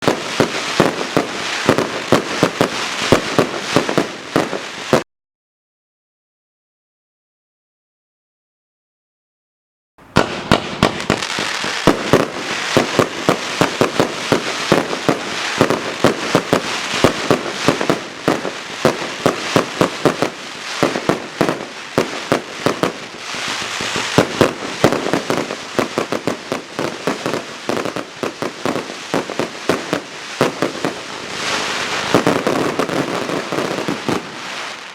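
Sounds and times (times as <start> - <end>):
firework launch thumps and bursts: 0.0 - 5.0, 10.0 - 34.9
firework crackling: 0.0 - 5.1, 10.0 - 34.9.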